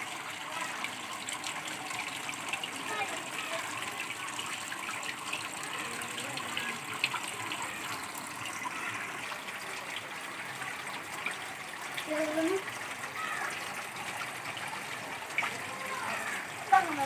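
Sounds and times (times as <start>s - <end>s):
running water flowing: 0.0s - 17.0s.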